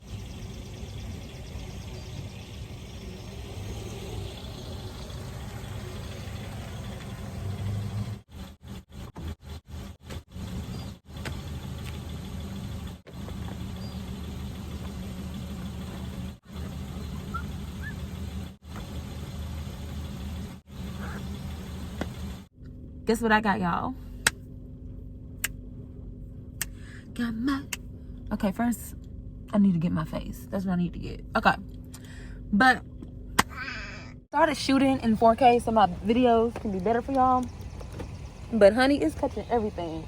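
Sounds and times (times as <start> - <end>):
car engine hum: 0.0 - 40.0
road noise: 0.0 - 40.0.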